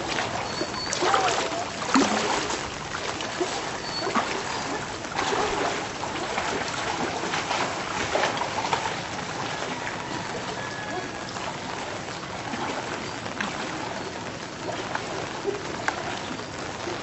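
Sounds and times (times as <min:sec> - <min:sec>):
floodwater rushing: 0:00.0 - 0:17.0
water splashing: 0:00.0 - 0:17.0.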